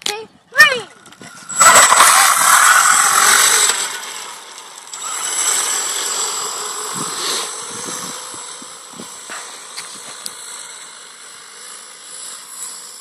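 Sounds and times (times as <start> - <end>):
electric motorbike whine: 0.7 - 13.0.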